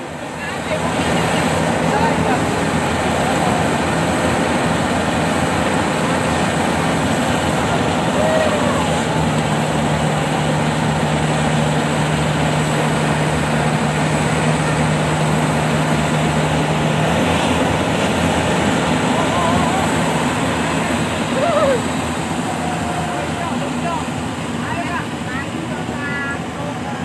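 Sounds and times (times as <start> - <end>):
combine harvester droning: 0.0 - 27.0.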